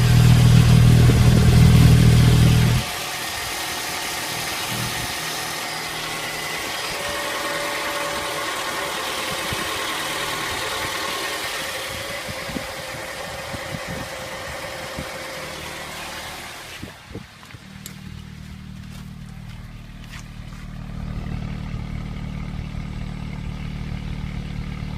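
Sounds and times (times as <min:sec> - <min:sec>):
petrol engine running: 0:00.0 - 0:24.9.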